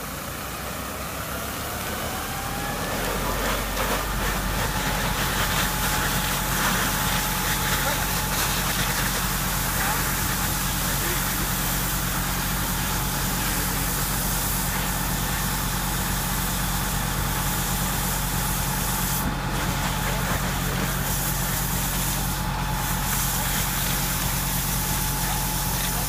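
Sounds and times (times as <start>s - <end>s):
diesel engine running: 0.0s - 26.0s
water spraying hiss: 3.3s - 26.0s.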